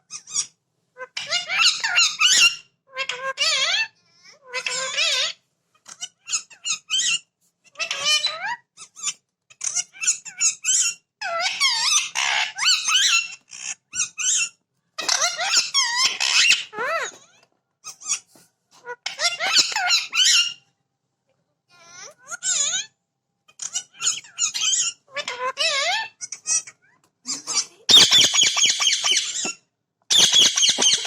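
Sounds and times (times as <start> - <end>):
parrot chattering and squawking: 0.1 - 20.6, 21.8 - 31.0.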